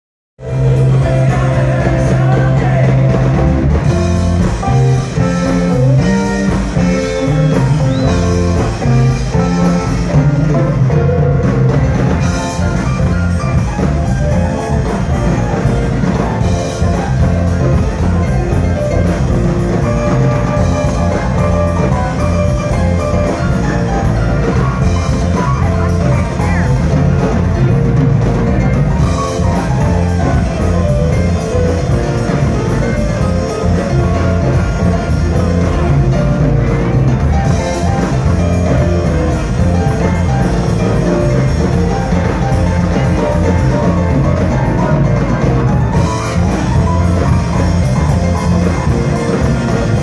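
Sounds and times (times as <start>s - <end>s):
bass guitar: 0.4s - 50.0s
drum kit: 0.4s - 50.0s
electric guitars: 0.4s - 50.0s
keyboards: 0.4s - 50.0s.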